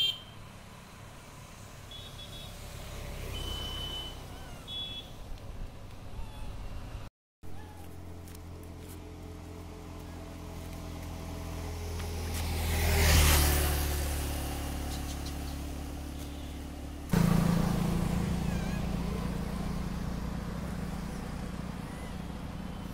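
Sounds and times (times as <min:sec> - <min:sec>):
engine hum: 0:00.0 - 0:22.9
vehicle passing close by: 0:00.4 - 0:05.3, 0:09.1 - 0:22.9.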